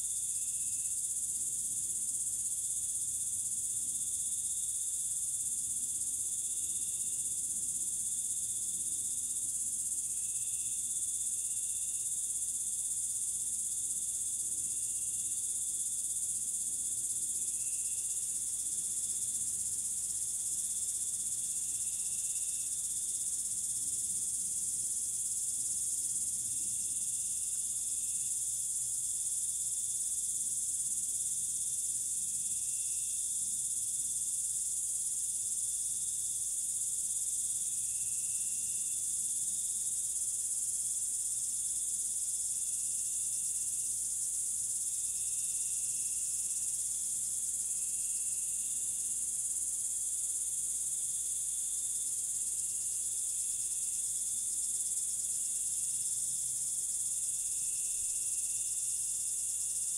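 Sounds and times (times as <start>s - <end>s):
insects chorus: 0.0s - 59.9s
lower insect calls: 0.0s - 59.9s.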